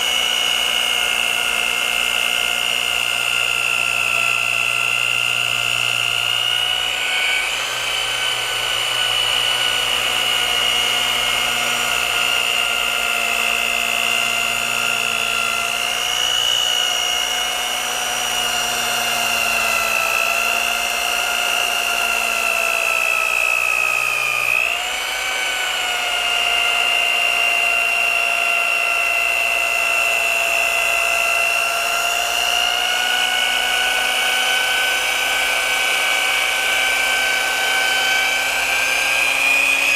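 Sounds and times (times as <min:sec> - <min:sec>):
rotary polisher whining: 0:00.0 - 0:39.9.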